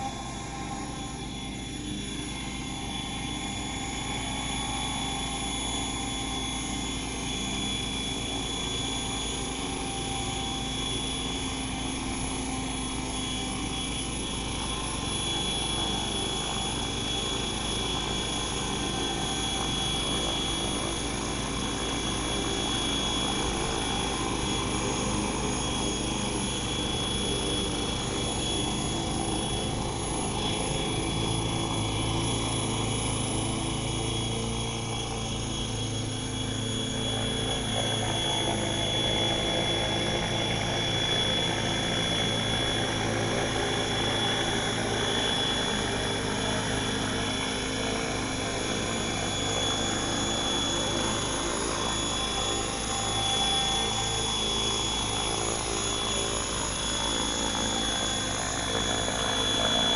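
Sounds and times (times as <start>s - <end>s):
model helicopter motor and rotor drone: 0.0s - 59.9s
steady high whine: 0.0s - 59.9s.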